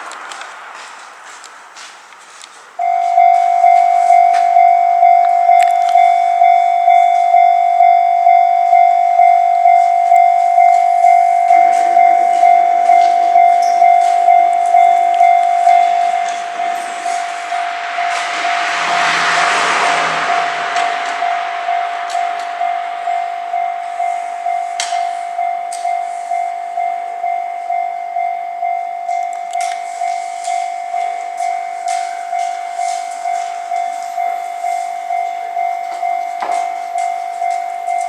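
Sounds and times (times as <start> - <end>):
electric train passing: 0.0 - 38.0
level crossing warning bell: 0.0 - 38.0.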